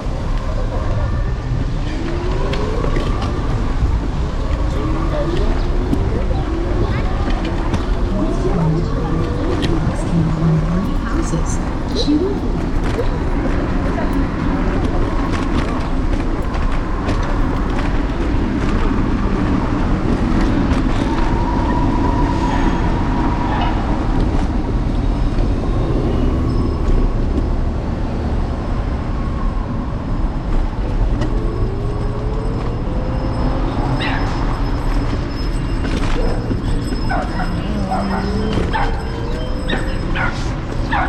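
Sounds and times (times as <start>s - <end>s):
electric scooter road noise: 0.0s - 41.0s
street traffic: 0.0s - 41.0s.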